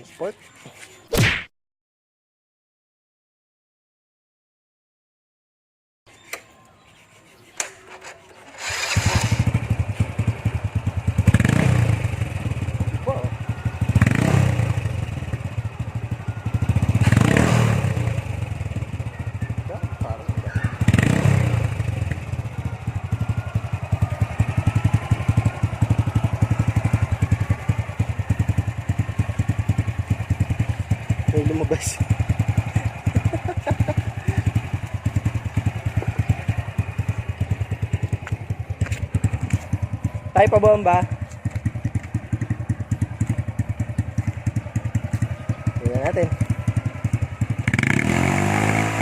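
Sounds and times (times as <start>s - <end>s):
motorcycle engine starting and idling: 7.6s - 49.0s.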